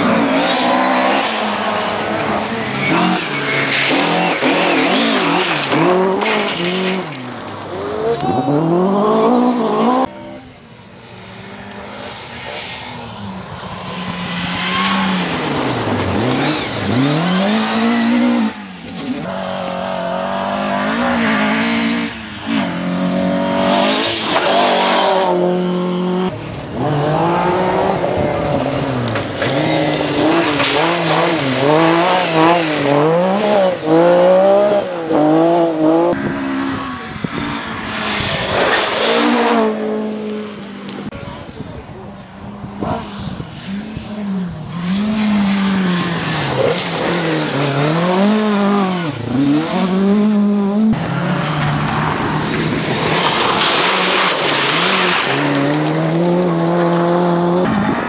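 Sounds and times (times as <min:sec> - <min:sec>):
rally car engines at full throttle: 0:00.0 - 0:58.0.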